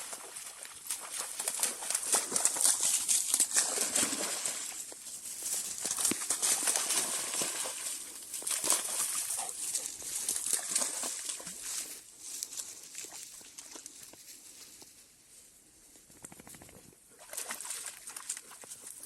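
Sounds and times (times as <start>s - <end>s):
dog splashing through a stream: 0.0s - 14.1s, 16.5s - 19.0s.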